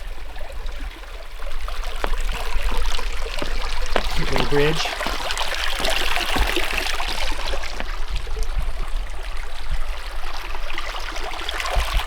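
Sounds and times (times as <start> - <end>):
creek water babbling: 0.0 - 12.0.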